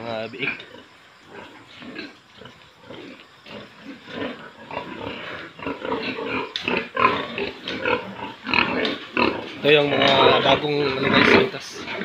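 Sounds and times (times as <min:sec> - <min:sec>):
pigs calling: 0:00.3 - 0:12.0.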